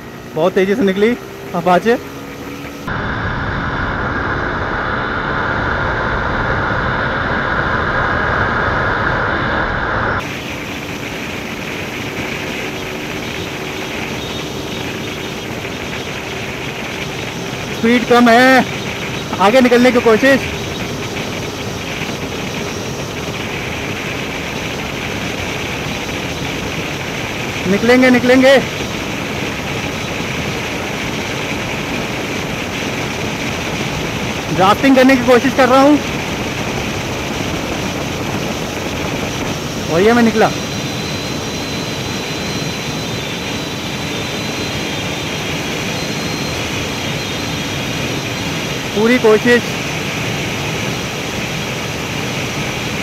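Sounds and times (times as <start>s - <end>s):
motorcycle engine running flat out: 0.0s - 53.0s
wind noise on microphone: 2.0s - 53.0s.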